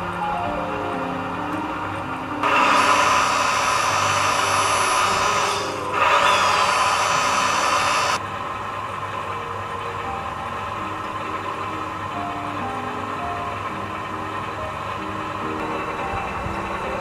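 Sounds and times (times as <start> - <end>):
electric pump motor whining: 0.0 - 17.0.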